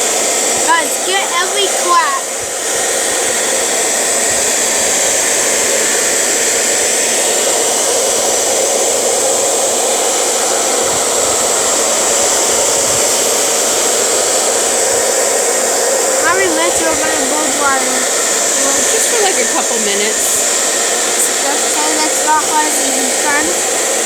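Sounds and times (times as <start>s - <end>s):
hair dryer running: 0.0s - 24.0s.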